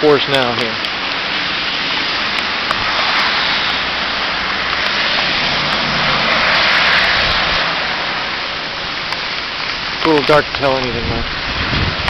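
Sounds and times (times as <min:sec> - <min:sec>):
heavy rain driven by wind: 0:00.0 - 0:12.0.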